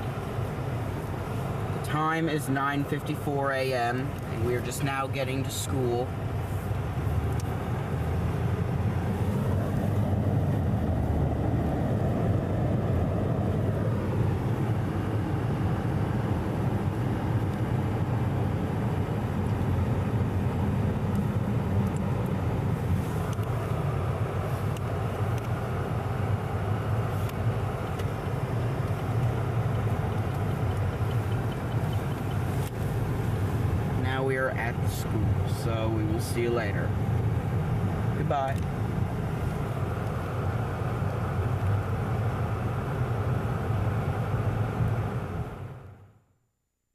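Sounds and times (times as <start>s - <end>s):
car road and engine rumble: 0.0s - 46.4s.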